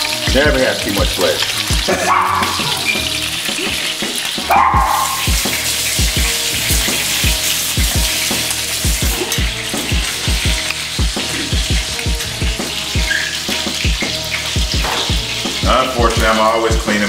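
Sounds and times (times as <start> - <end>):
chicken sizzling in hot oil: 0.0 - 17.0
oil popping: 0.0 - 17.0.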